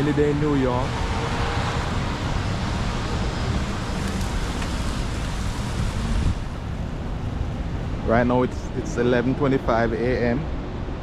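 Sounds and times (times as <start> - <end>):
city traffic on wet street: 0.0 - 11.0.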